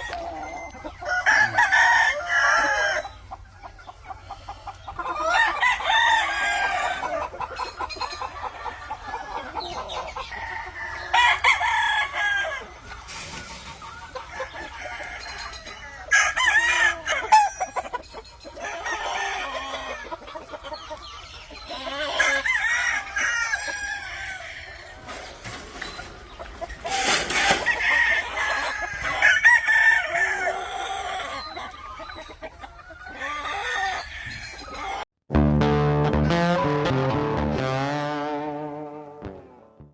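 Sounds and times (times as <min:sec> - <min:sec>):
roosters crowing: 0:00.0 - 0:35.0
chickens clucking: 0:00.0 - 0:35.1.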